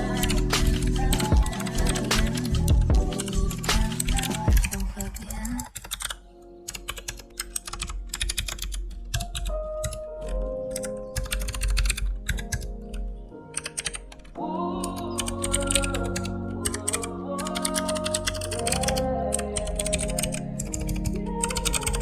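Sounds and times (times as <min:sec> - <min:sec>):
background music: 0:00.0 - 0:22.0
keyboard typing clicks: 0:00.0 - 0:22.0.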